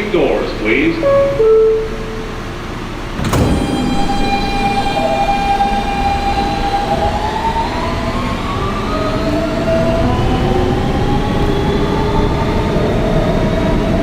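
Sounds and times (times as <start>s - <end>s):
subway doors shutting: 0.0s - 14.0s
train motor whine rising: 1.2s - 14.0s.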